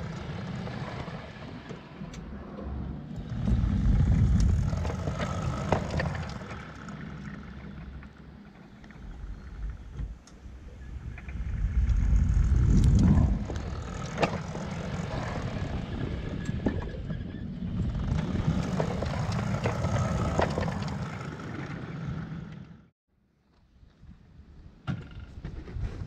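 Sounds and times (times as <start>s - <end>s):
miniature locomotive rumbling on rails: 0.0s - 22.8s.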